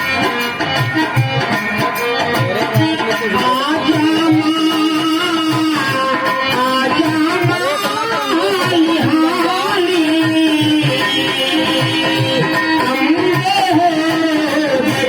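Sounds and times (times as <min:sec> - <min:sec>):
wavering instrumental melody: 0:00.0 - 0:15.0.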